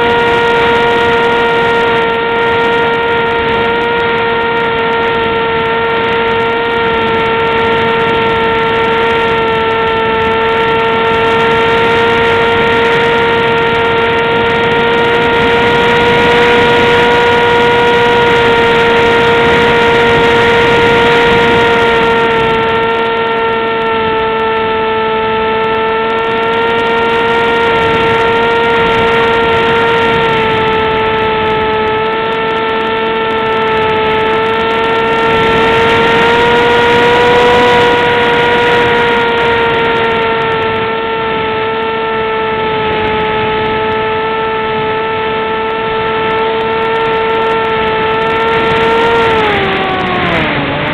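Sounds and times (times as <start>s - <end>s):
model airplane motor whine: 0.0s - 50.9s.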